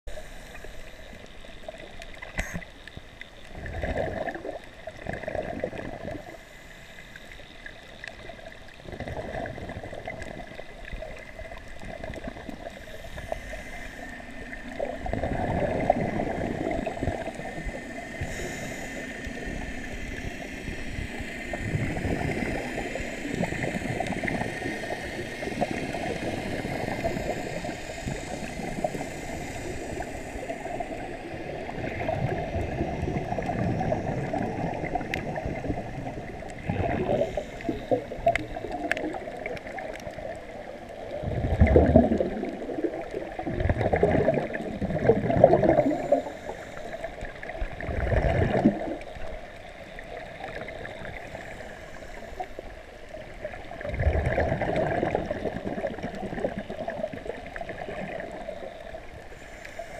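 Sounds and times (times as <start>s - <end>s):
underwater hiss: 0.1s - 59.9s
gurgling exhaled bubbles: 3.4s - 6.4s, 8.0s - 59.9s.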